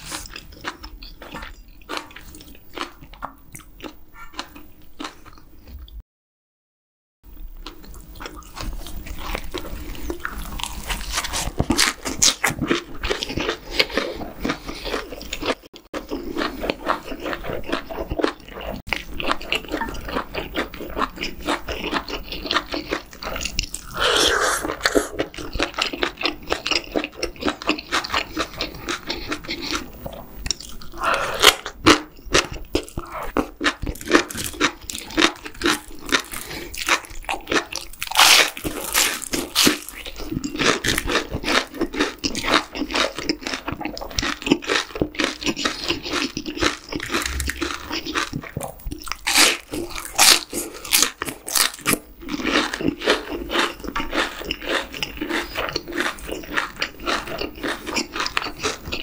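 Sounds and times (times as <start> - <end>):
person chewing: 0.0 - 6.0, 7.3 - 59.0
crunching bites: 8.2 - 59.0.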